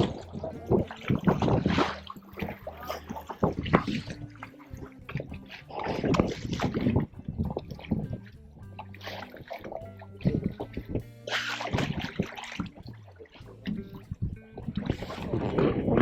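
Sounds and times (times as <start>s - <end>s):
boat engine hum: 0.0s - 16.0s
water splashing against hull: 0.0s - 16.0s.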